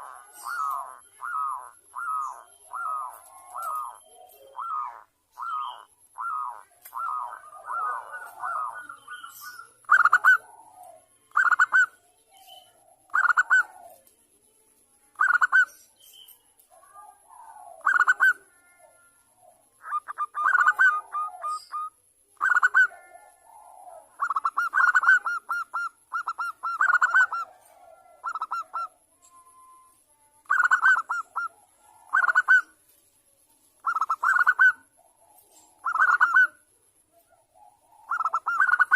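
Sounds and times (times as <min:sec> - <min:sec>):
dove cooing: 0:00.0 - 0:14.1, 0:16.7 - 0:32.8, 0:33.8 - 0:38.9.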